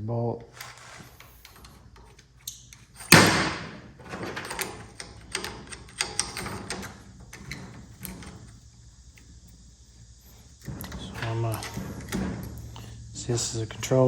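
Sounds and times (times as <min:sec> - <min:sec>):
metal parts clicking and rattling: 0:00.5 - 0:13.1.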